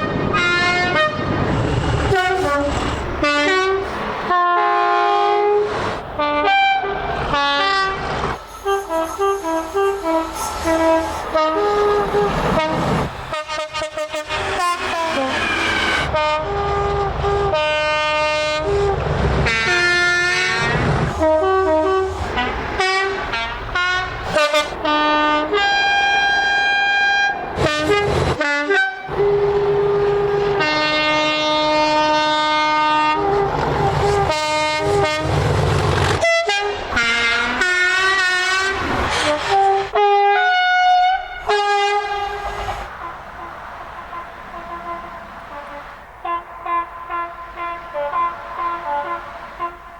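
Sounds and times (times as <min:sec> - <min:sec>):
train horns tooting: 0:00.0 - 0:49.9
train rumble: 0:00.0 - 0:49.9.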